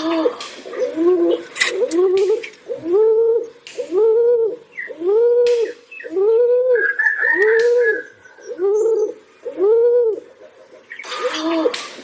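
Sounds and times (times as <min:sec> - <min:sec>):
pigeon cooing: 0:00.0 - 0:12.0.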